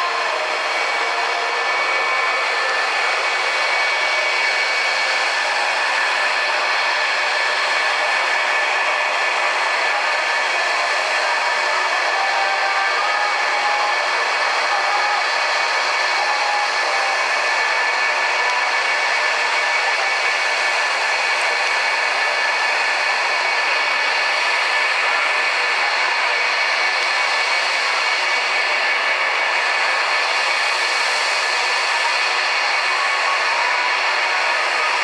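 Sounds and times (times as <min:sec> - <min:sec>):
jet engines idling: 0:00.0 - 0:35.0.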